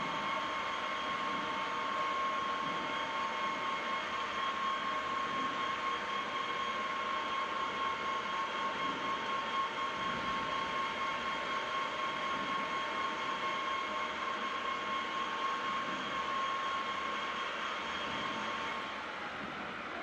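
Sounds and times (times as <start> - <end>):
lathe whirring: 0.0 - 20.0.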